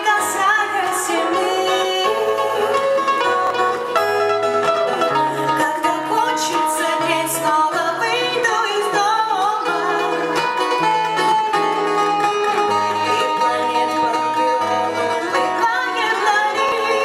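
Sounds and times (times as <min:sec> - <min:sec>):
bending lead melody: 0:00.0 - 0:17.0.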